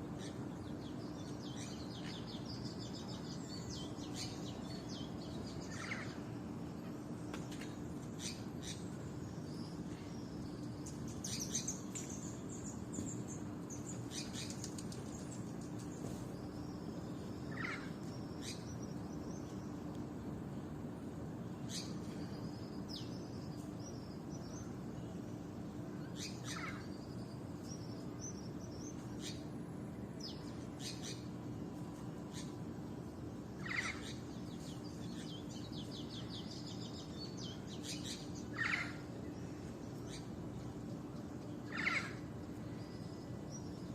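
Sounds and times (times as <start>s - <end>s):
birds chirping and trilling: 0.0s - 43.9s.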